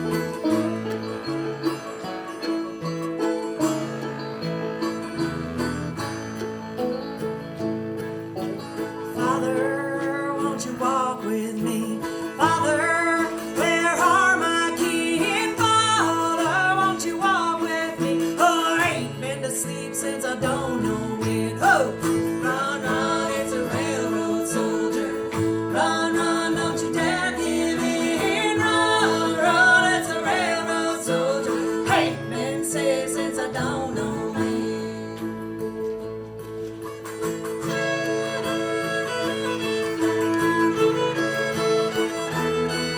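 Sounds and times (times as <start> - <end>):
bluegrass band playing: 0.0 - 42.9.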